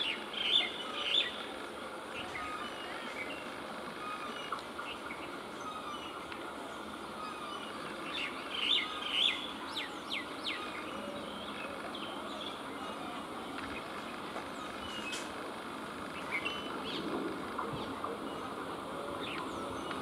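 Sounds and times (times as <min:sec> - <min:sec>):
outdoor background noise: 0:00.0 - 0:20.0
small birds chirping: 0:02.1 - 0:20.0.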